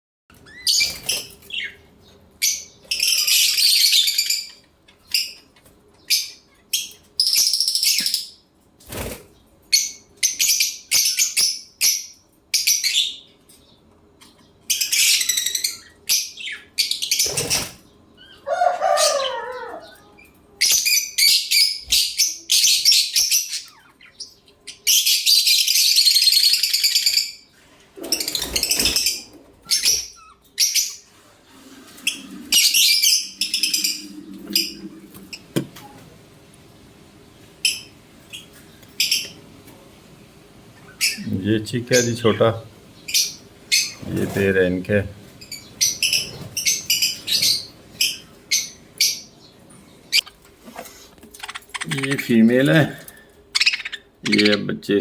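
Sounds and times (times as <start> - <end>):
birds screeching: 0.3 - 36.1, 37.6 - 39.5, 40.6 - 54.7.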